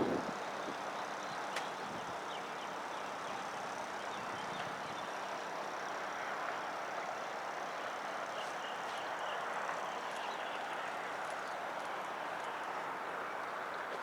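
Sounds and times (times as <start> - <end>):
distant road traffic hiss: 0.0 - 14.0.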